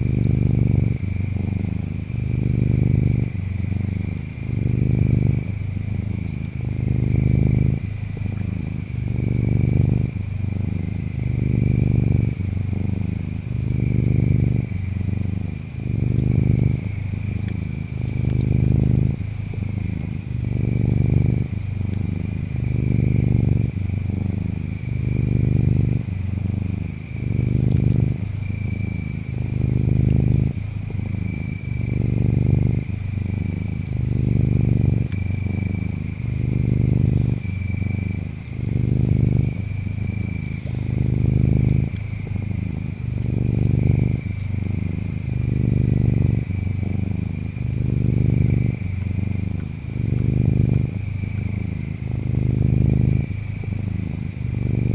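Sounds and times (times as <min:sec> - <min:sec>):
cat purring: 0:00.0 - 0:54.9
high insect chirps: 0:00.0 - 0:54.9
insect trill: 0:00.0 - 0:54.9.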